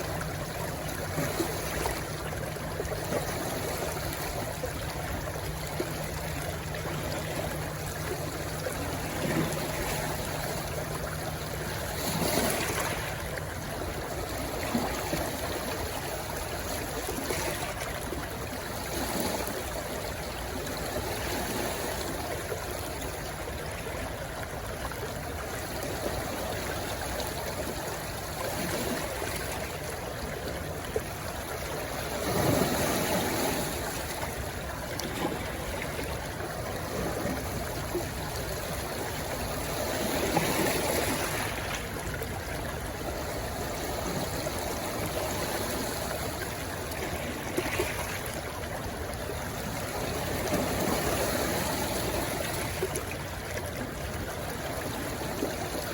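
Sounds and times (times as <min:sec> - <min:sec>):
stream rushing and gurgling: 0:00.0 - 0:55.9.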